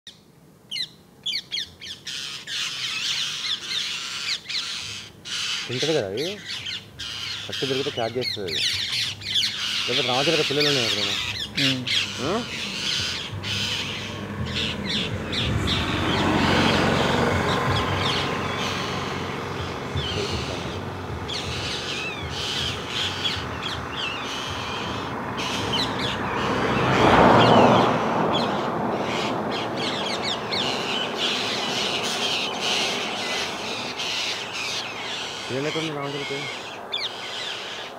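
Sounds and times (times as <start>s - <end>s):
parrots squawking: 0.7s - 37.9s.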